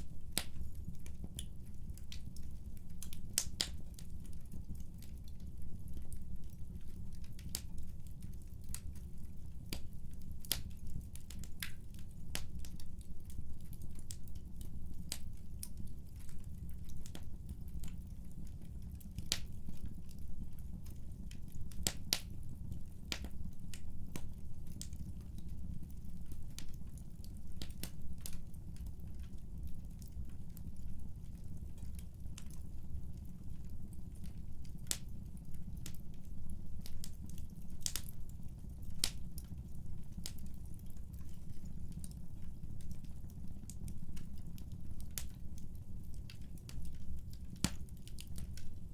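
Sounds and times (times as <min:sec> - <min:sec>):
fire crackles and pops: 0:00.0 - 0:48.9.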